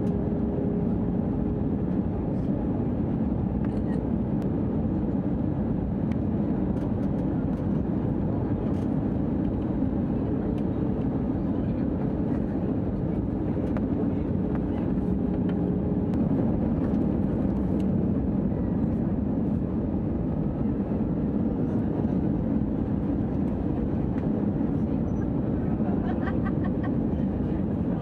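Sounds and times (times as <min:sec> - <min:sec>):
airplane cabin engine hum: 0:00.0 - 0:28.0.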